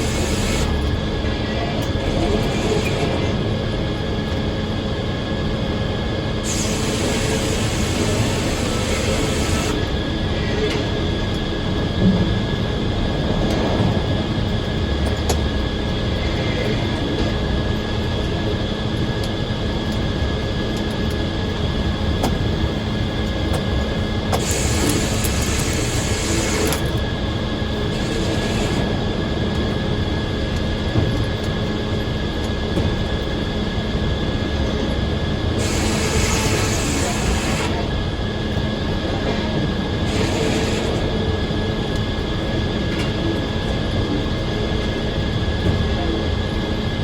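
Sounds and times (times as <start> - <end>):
circular sawmill whining: 0.0 - 19.7, 20.5 - 47.0.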